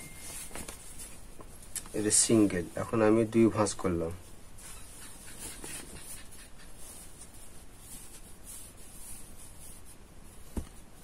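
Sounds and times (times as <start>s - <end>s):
cloth rustling and swishing: 0.0s - 2.8s, 4.2s - 11.0s.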